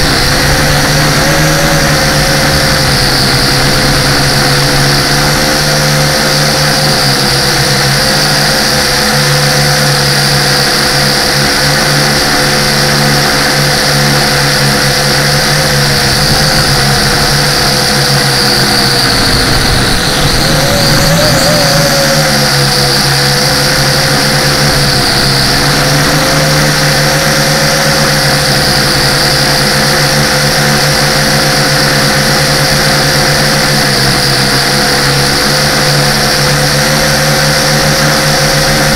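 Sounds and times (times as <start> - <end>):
model aircraft motors whining: 0.0 - 38.9.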